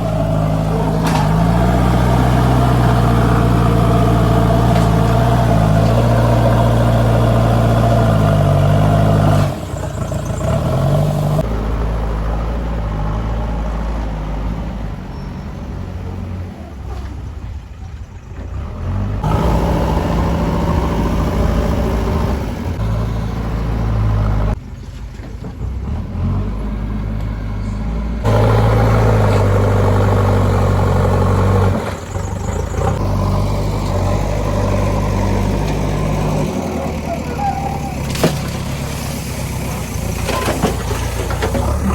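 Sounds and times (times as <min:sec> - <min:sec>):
heavy diesel engines working: 0:00.0 - 0:41.9.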